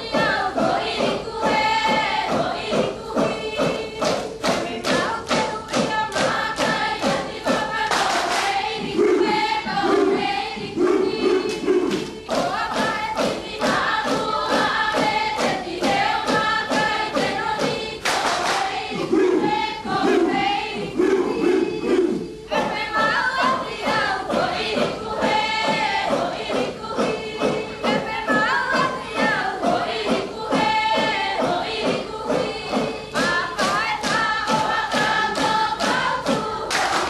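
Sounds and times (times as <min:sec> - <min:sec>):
chorus singing: 0:00.0 - 0:37.0
steady percussive beat: 0:00.0 - 0:37.0.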